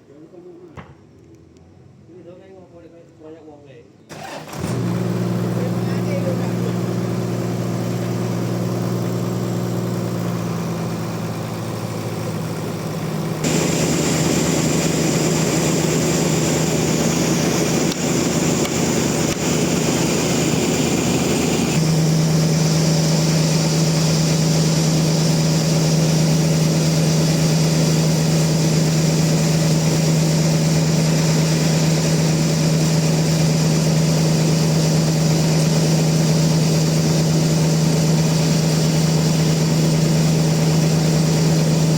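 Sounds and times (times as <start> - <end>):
sawmill machinery humming: 4.1 - 41.9.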